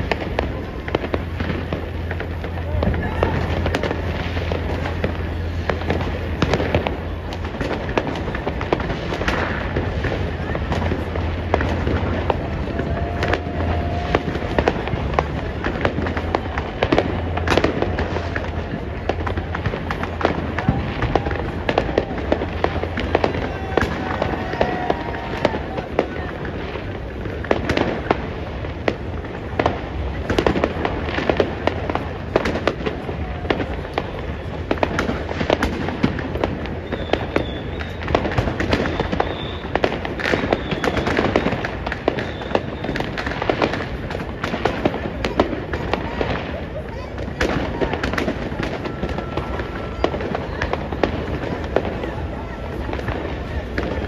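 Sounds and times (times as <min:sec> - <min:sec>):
fireworks and firecrackers bangs: 0:00.0 - 0:54.0.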